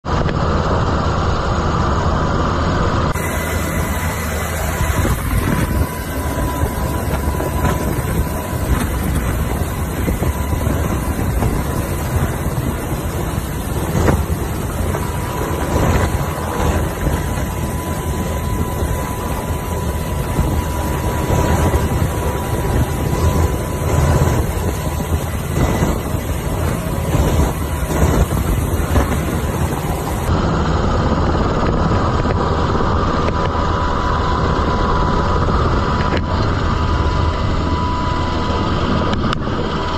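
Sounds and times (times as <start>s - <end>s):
helicopter rotors and engines: 0.0s - 39.9s
wind buffeting microphone: 0.0s - 39.9s
thin whine: 0.1s - 39.9s.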